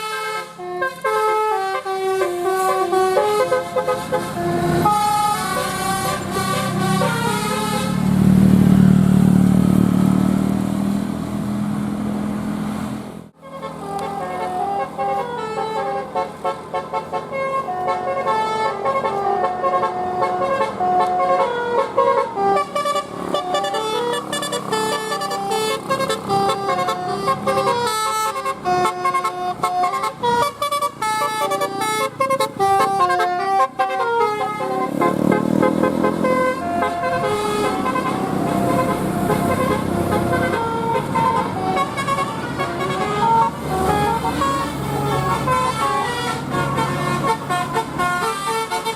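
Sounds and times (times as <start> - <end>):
musical bus horn playing tune: 0.0 - 8.6, 13.4 - 48.9
bus engine rumbling: 0.0 - 48.9.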